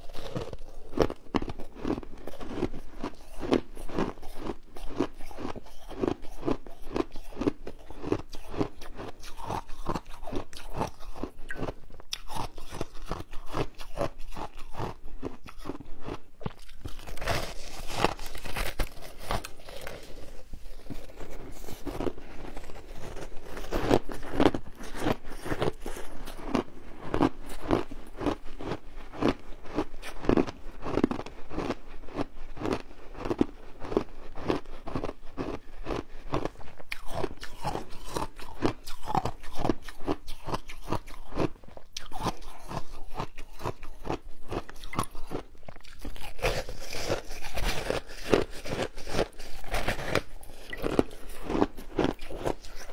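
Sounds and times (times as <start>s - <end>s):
biting and crunching shaved ice: 0.0s - 52.9s.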